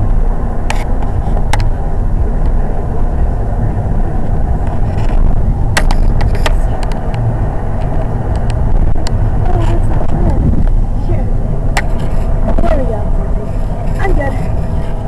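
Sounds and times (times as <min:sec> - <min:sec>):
car road and wind rumble: 0:00.0 - 0:15.0.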